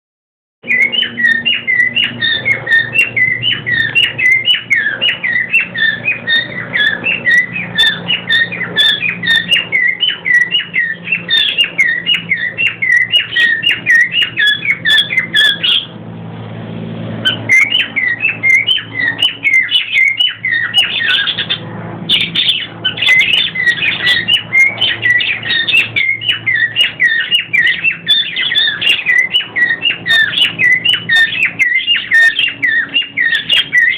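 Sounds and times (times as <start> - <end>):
birds chirping rapidly: 0.6 - 33.9.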